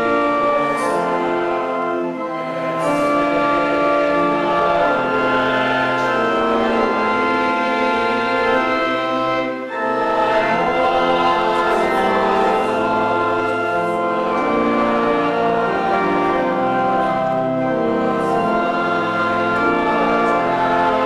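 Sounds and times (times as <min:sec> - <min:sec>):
choir singing a hymn: 0:00.0 - 0:21.0
instrumental accompaniment: 0:00.0 - 0:21.0.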